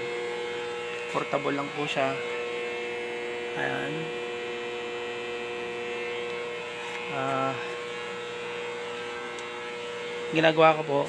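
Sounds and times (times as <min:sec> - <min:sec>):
cooling blower running: 0:00.0 - 0:11.0
welder electrical hum: 0:00.0 - 0:11.0.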